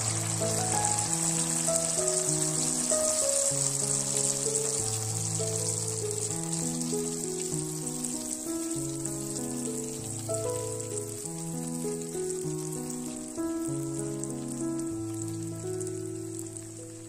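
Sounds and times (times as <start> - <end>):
music with slow held notes: 0.0 - 17.0
oil sizzling in wok: 0.0 - 17.0.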